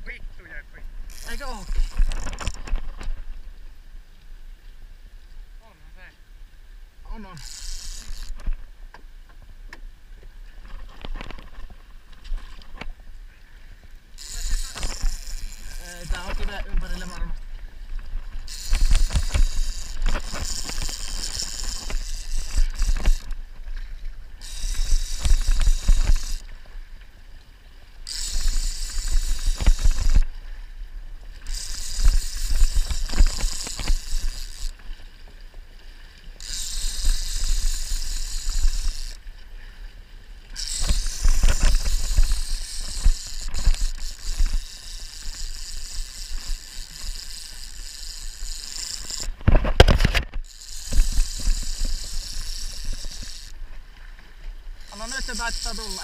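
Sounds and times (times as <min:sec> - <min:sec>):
water rushing along boat hull: 0:10.3 - 0:56.0.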